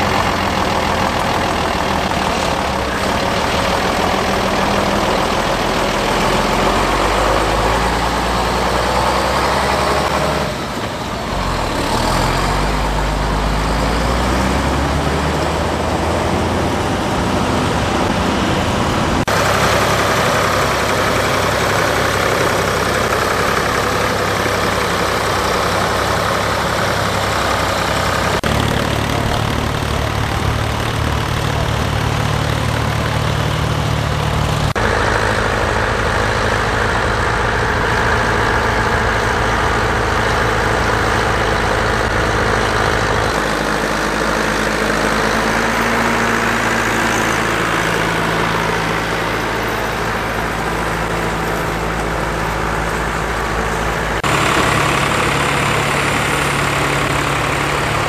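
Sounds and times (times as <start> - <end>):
tractor engines running under load: 0.0 - 58.0.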